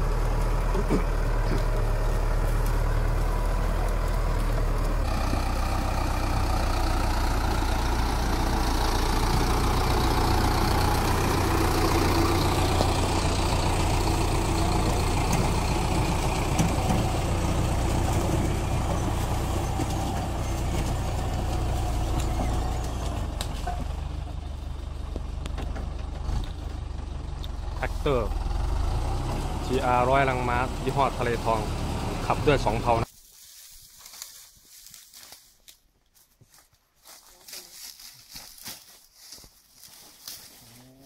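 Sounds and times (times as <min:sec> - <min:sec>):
tractor diesel engine droning: 0:00.0 - 0:33.1.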